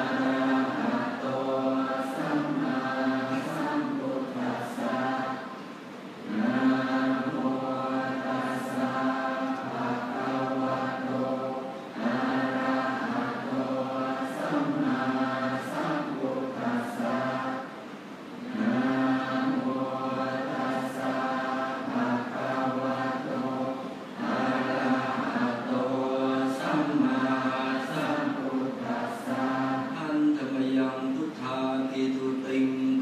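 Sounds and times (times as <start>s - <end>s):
monks chanting in unison: 0.0s - 5.6s, 6.2s - 17.8s, 18.4s - 33.0s.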